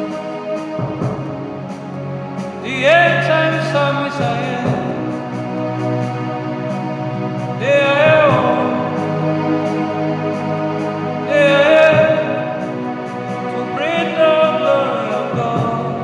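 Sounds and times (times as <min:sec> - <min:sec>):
sustained held chords: 0:00.0 - 0:16.0.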